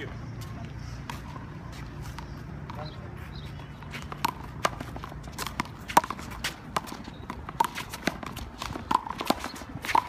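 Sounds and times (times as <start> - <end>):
sneakers squeaking on concrete: 0.0 - 10.0.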